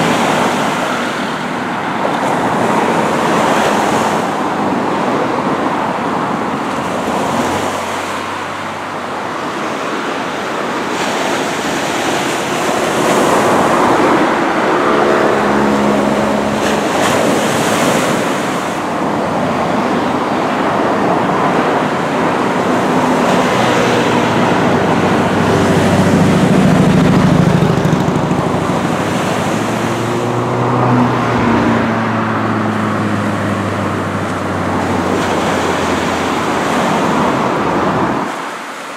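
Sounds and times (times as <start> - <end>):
road traffic passing: 0.0 - 38.9
small surf washing on shore: 0.0 - 38.9.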